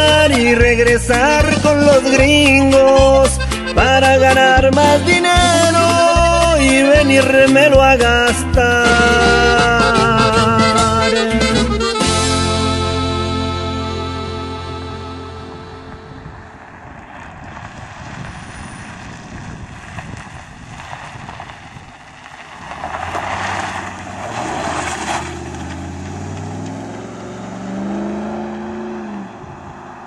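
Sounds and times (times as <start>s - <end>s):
truck passing by: 0.0s - 30.0s.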